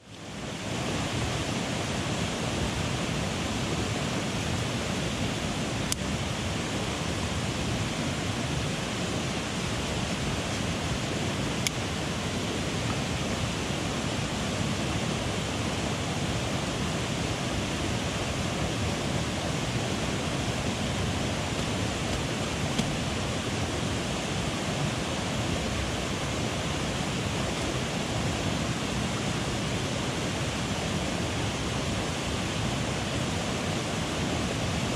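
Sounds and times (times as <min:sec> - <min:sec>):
mountain stream rushing: 0:00.0 - 0:34.9.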